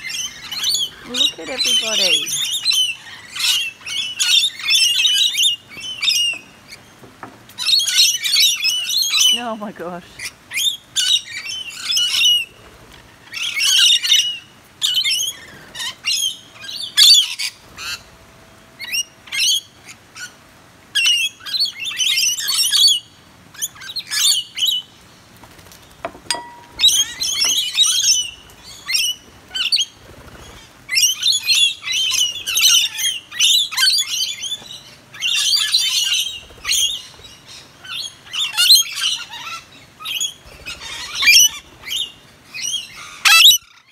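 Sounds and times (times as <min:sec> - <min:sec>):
parrots screeching and chattering: 0:00.0 - 0:06.9, 0:07.6 - 0:09.4, 0:10.2 - 0:18.1, 0:21.0 - 0:24.9, 0:26.4 - 0:43.9.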